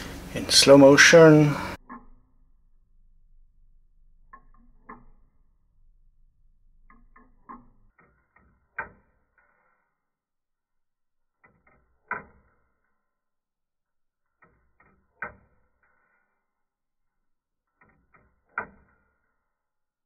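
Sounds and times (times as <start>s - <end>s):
watch escapement ticking: 0.6s - 10.0s, 11.2s - 13.2s, 14.2s - 16.5s, 17.3s - 19.6s.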